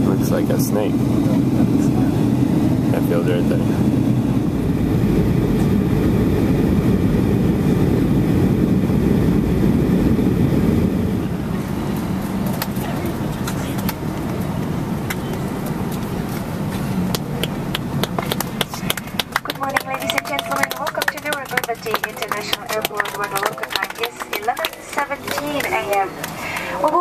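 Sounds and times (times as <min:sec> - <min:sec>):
airliner cabin engine rumble: 0:00.0 - 0:27.0.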